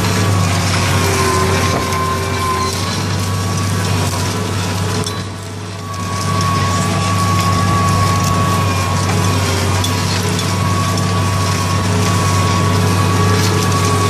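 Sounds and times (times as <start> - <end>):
tractor engine drone: 0.0 - 14.0.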